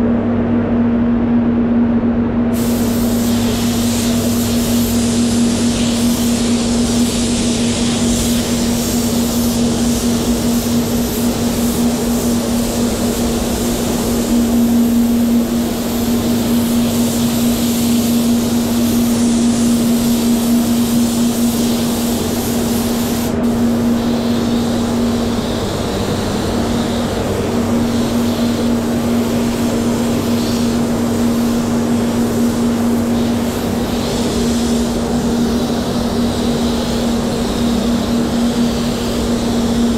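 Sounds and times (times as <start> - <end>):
steady low hum: 0.0 - 39.9
spray gun hissing: 2.6 - 39.9.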